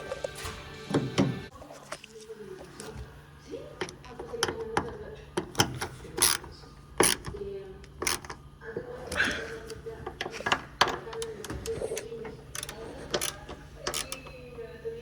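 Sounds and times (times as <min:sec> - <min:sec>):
hand tools clicking and knocking on metal: 0:00.0 - 0:01.5, 0:03.8 - 0:14.6.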